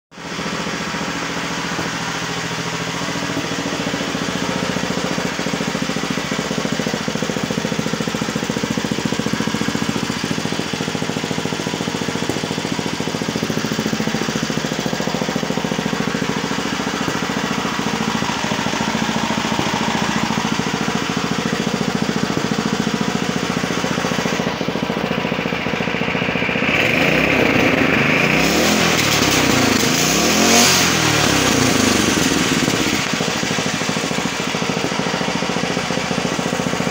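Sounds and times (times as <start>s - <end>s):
small engine running: 0.1s - 36.9s.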